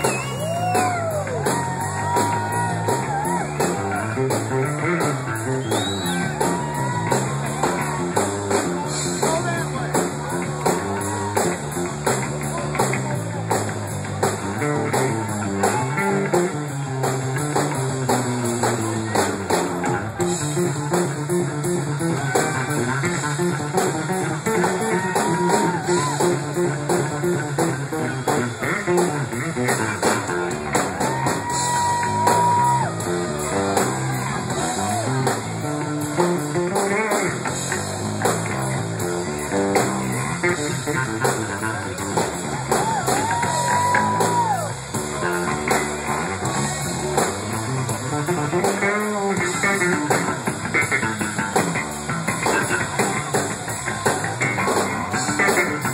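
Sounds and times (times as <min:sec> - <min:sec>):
lead guitar bending long notes: 0:00.0 - 0:55.9
live rock band playing: 0:00.0 - 0:55.9.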